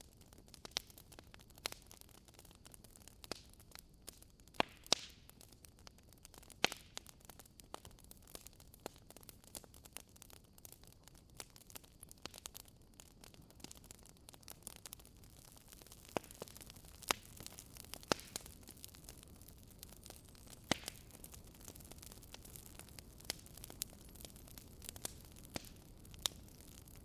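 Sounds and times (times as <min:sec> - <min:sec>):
faint steady hiss: 0:00.0 - 0:27.0
wood fire crackling: 0:00.0 - 0:27.0.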